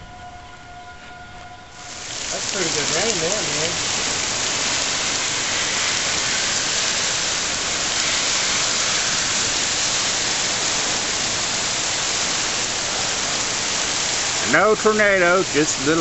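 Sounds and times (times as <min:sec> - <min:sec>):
heavy rain pouring: 0:01.7 - 0:16.0.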